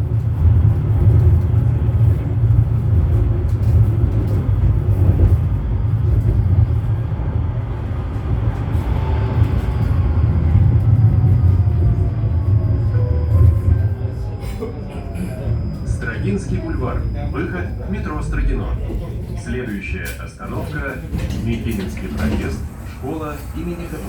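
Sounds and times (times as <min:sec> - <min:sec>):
tram wheels rumbling on track: 0:00.0 - 0:24.0.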